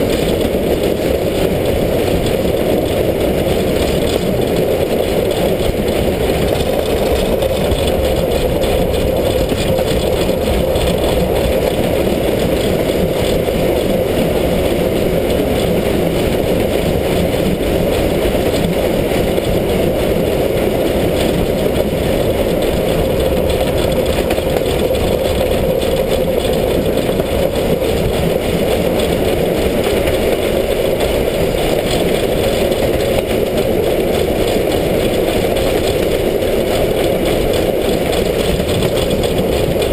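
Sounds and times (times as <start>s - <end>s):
steam locomotive running noise: 0.0s - 39.9s.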